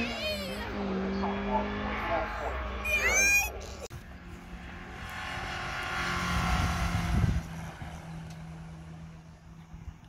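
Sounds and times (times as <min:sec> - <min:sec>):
race car engine accelerating past: 0:00.0 - 0:02.9, 0:04.1 - 0:09.6.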